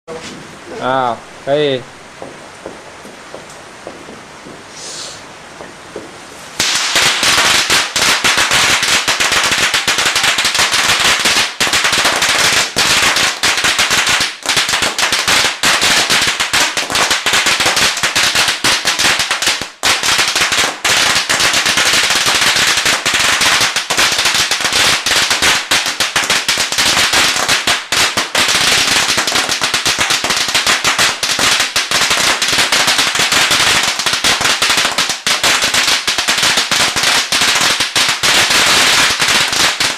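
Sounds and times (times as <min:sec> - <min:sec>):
firecrackers banging and crackling: 0:01.4 - 0:39.9.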